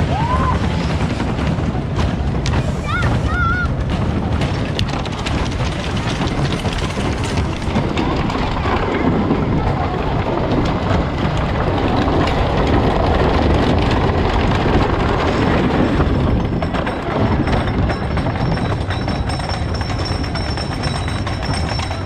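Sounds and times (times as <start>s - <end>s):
roller coaster rumbling and clacking: 0.0s - 22.0s.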